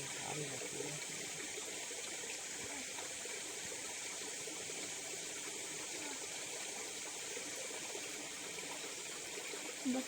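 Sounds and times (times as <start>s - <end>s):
flowing river water: 0.0s - 10.0s.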